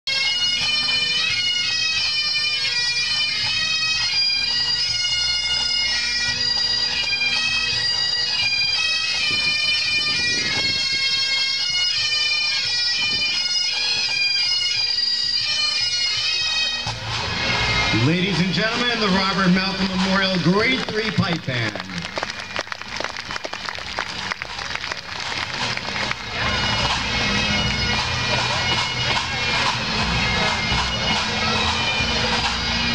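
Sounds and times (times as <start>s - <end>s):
bagpipes playing a tune: 0.1s - 32.9s.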